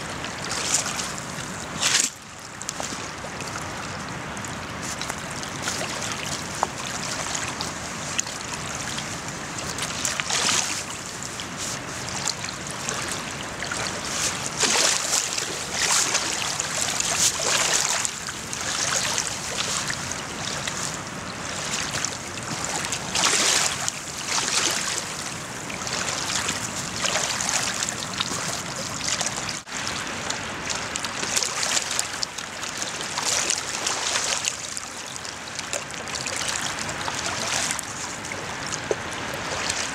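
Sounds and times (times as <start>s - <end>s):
water washing against rocky shore: 0.0s - 39.9s.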